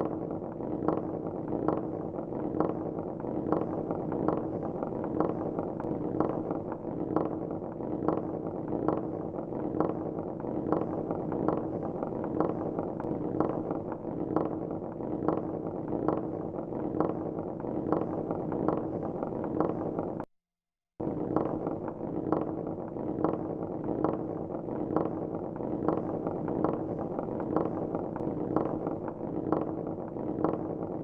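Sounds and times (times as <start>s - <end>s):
marbles rolling on a track: 0.2s - 20.2s, 21.0s - 31.0s.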